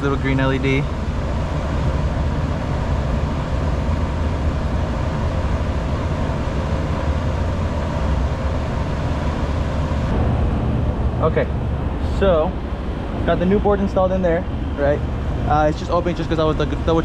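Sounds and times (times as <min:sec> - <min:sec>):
air conditioning drone: 0:00.0 - 0:17.0.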